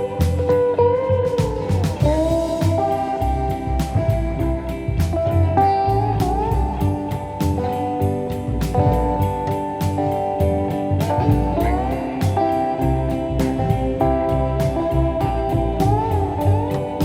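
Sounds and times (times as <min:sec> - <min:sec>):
slide guitar melody over a beat: 0:00.0 - 0:17.0.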